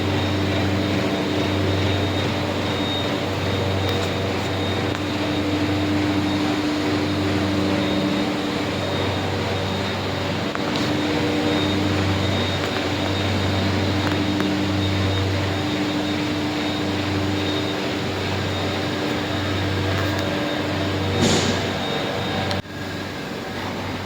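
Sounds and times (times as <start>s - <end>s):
textile machine droning: 0.0s - 24.0s.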